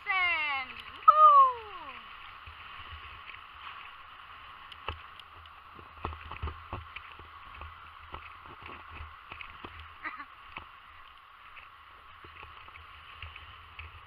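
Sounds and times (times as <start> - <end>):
small waves lapping on shore: 0.0 - 14.0.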